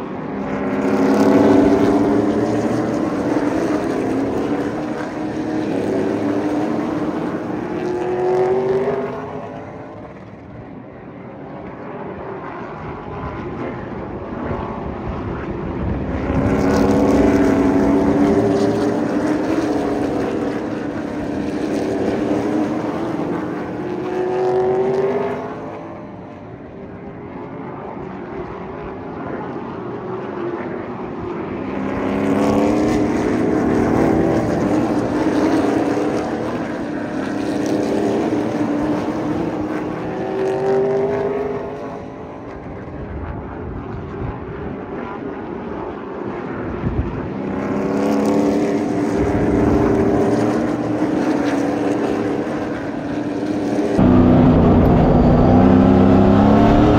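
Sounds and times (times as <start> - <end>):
race car engines passing: 0.0 - 27.0, 27.8 - 43.0, 47.3 - 56.9.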